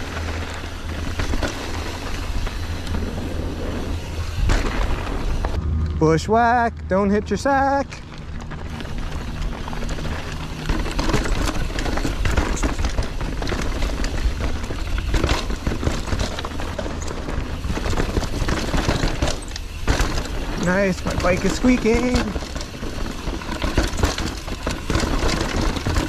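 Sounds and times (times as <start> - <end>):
bike rattling and knocking: 0.0 - 26.0
bike tyres rumbling on dirt: 0.0 - 26.0.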